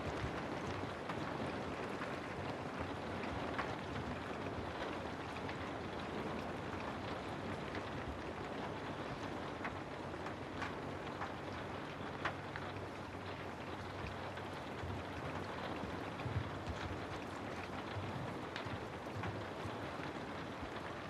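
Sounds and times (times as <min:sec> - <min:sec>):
rain drops ticking: 0:00.0 - 0:21.0.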